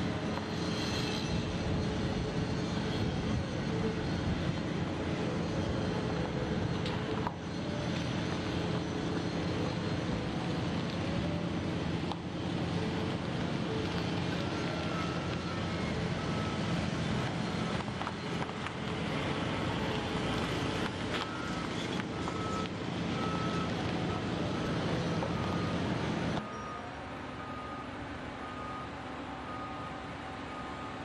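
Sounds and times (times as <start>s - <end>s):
reversing alarm beeping: 0.8s - 31.0s.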